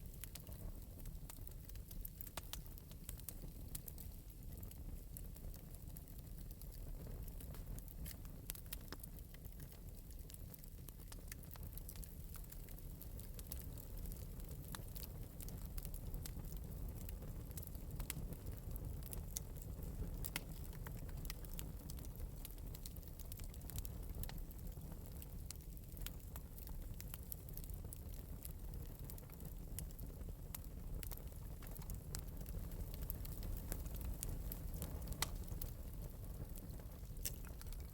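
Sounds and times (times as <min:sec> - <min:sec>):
fire crackling: 0:00.0 - 0:37.9.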